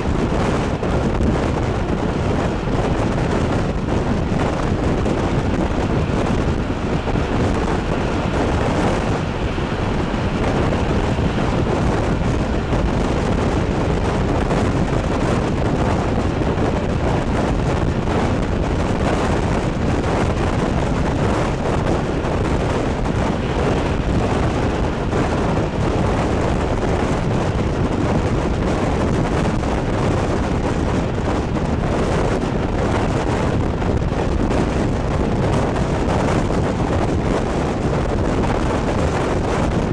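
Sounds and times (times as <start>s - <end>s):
moving train rumble: 0.0s - 39.9s
wind buffeting microphone: 0.0s - 39.9s.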